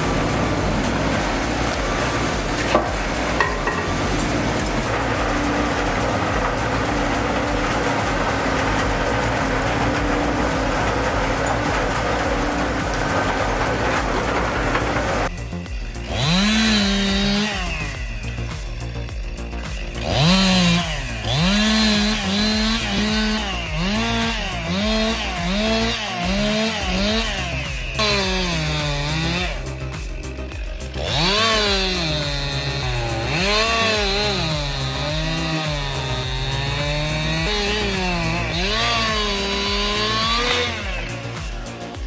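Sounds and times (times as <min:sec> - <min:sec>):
small engine revving: 0:00.0 - 0:42.0.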